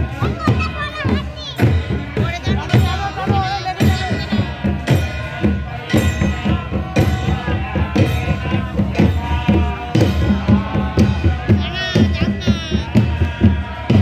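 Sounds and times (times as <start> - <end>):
jingling percussion: 0.0 - 14.0
strong drum beat: 0.0 - 14.0
voices chanting or singing: 0.0 - 14.0.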